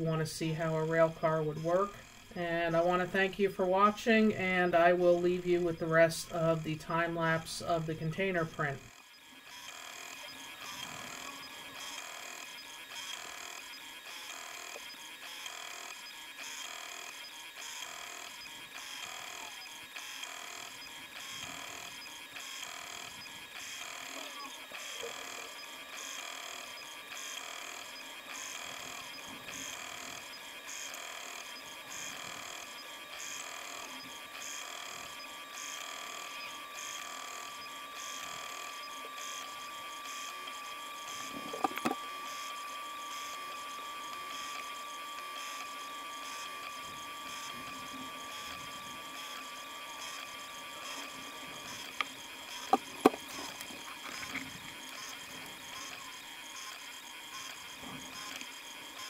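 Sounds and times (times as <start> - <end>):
three d printer motors whining: 0.0 - 59.0.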